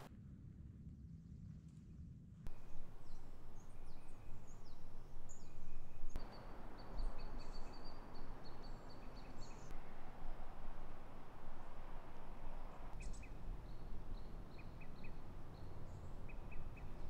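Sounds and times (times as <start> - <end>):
forest ambience: 2.5 - 17.0
small birds chirping: 2.5 - 17.0.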